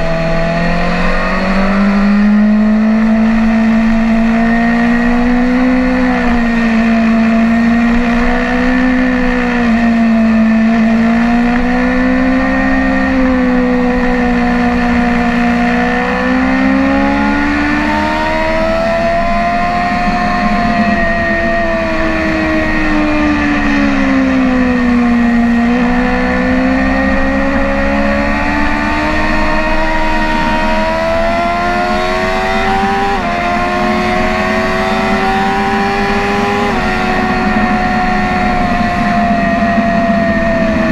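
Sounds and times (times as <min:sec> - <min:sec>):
sport bike engine running hard: 0:00.0 - 0:40.9.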